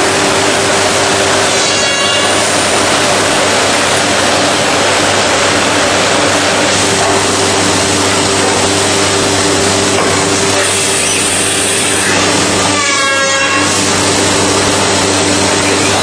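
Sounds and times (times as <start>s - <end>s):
woodworking machine running: 0.0s - 16.0s.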